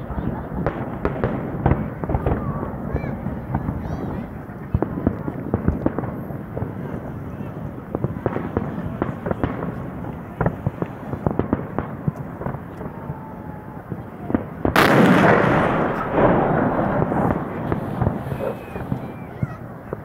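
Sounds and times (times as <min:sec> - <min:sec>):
dense crackling firework burst: 0:00.0 - 0:20.0
fireworks banging: 0:00.0 - 0:20.0.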